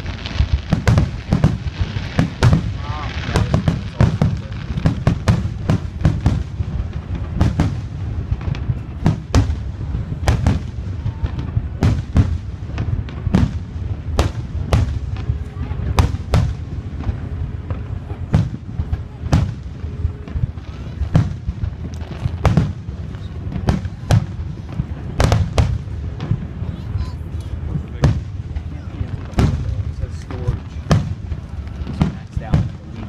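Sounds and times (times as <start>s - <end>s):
firework shells bursting: 0.0s - 26.7s
continuous low rumble: 0.0s - 33.0s.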